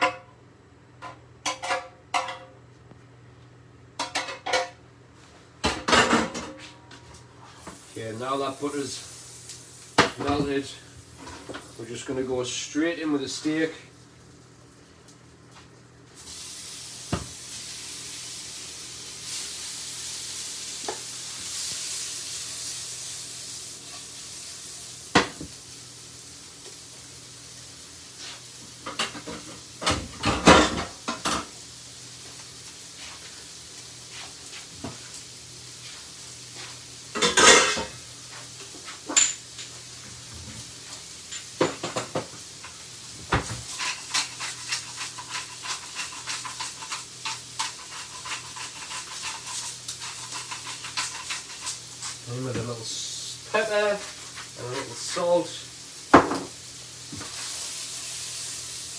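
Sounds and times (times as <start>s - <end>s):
steak sizzling in frying pan: 7.6s - 12.2s, 16.1s - 58.9s.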